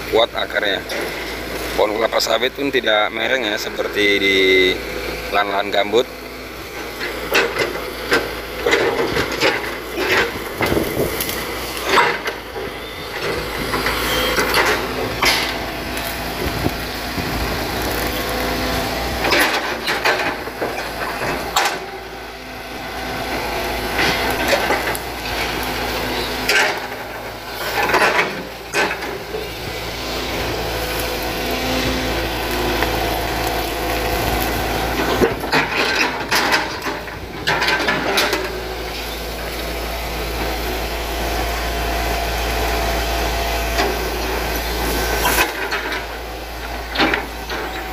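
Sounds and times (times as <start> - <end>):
excavator diesel engine running: 0.0 - 47.9
roots and fronds cracking: 6.8 - 47.9.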